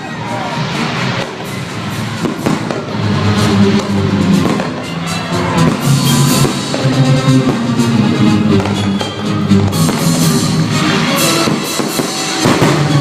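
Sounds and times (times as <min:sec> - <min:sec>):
loud music: 0:00.0 - 0:13.0
fireworks popping and banging: 0:00.2 - 0:13.0.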